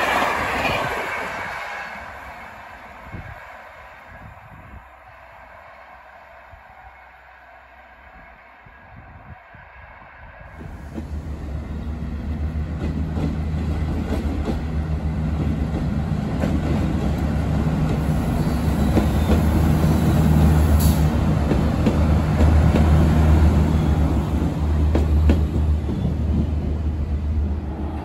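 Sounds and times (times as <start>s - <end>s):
diesel railcar engine drone: 0.0s - 28.0s.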